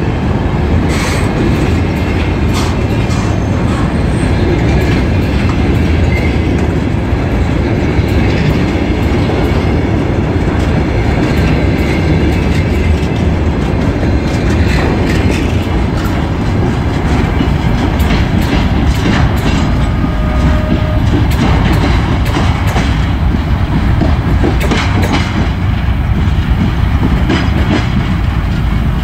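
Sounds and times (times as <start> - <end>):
freight train wheels rumbling on rails: 0.0 - 29.0
rail joint clicks and knocks: 0.0 - 29.0.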